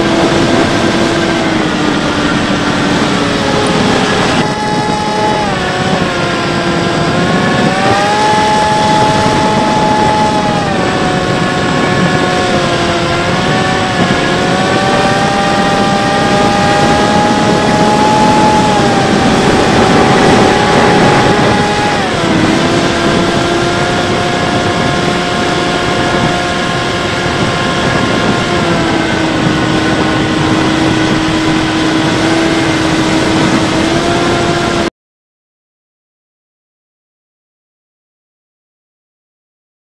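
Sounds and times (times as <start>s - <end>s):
electric motor and propeller whining: 0.0s - 34.9s
wind rush: 0.0s - 34.9s.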